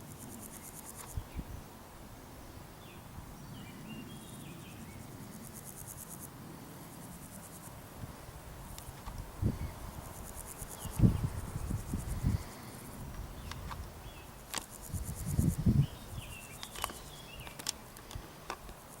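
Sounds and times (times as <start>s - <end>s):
insects chirping high-pitched: 0.0s - 1.4s, 2.9s - 18.1s.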